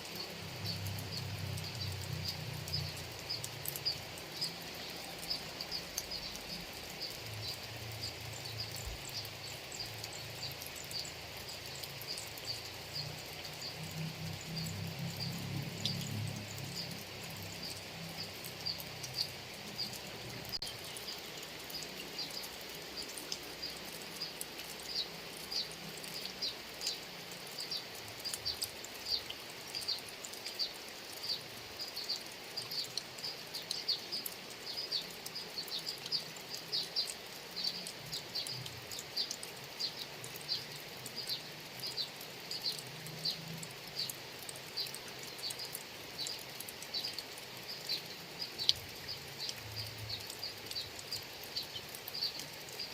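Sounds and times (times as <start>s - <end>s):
steady rain hiss: 0.0s - 52.9s.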